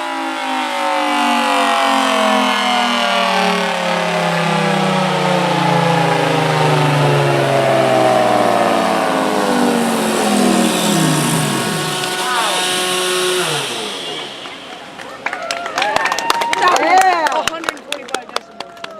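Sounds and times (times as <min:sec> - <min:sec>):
warning siren winding down: 0:00.0 - 0:16.5.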